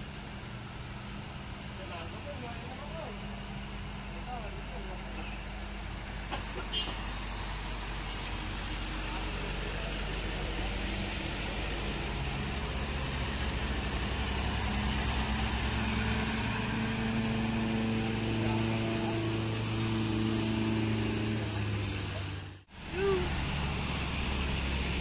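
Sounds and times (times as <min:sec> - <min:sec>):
bus diesel engine droning: 0:00.0 - 0:25.0
road and traffic noise: 0:00.0 - 0:25.0.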